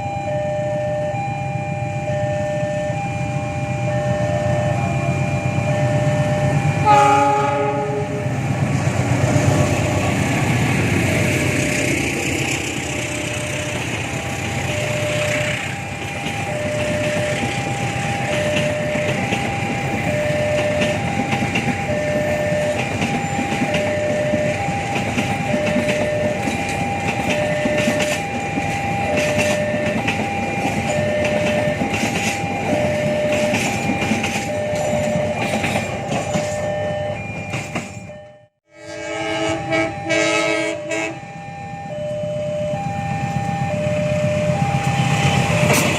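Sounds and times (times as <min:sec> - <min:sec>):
two-tone warning signal: 0:00.0 - 0:08.4, 0:12.9 - 0:45.9
train running past: 0:01.2 - 0:45.9.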